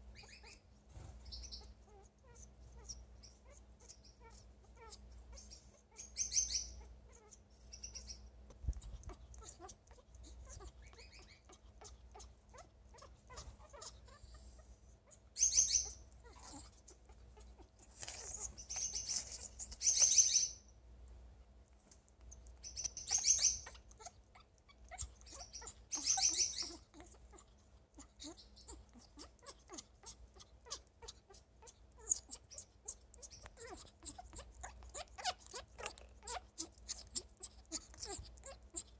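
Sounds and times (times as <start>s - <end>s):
parrot pulsing high-pitched sounds: 0.0s - 20.7s, 22.2s - 38.9s.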